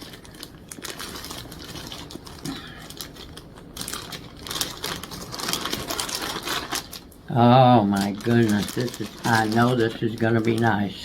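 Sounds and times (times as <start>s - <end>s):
bag rustling and crinkling: 0.0s - 11.0s.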